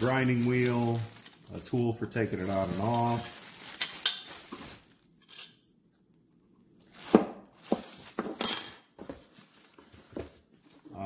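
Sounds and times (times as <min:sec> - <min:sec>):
plastic packaging crinkling: 0:00.0 - 0:05.3, 0:06.8 - 0:11.0.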